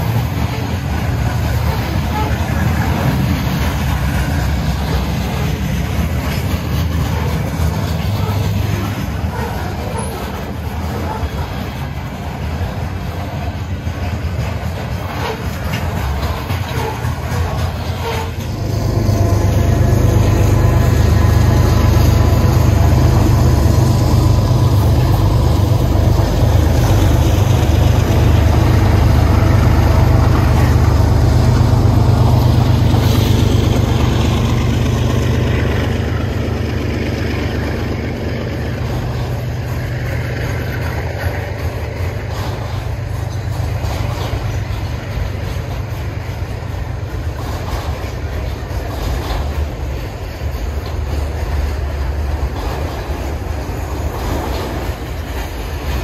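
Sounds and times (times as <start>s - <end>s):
freight cars rolling on rails: 0.0s - 56.0s
locomotive engines rumbling: 0.0s - 56.0s.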